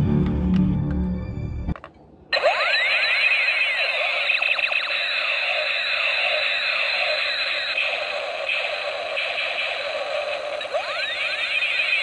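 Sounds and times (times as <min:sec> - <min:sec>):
toy laser gun sound effect: 0:02.4 - 0:12.0.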